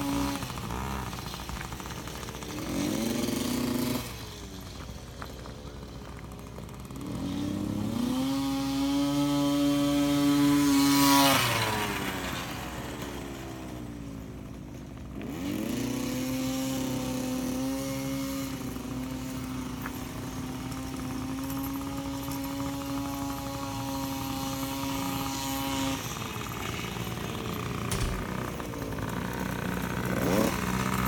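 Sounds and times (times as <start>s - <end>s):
dirt bike engine revving: 0.0s - 14.3s, 15.0s - 31.0s.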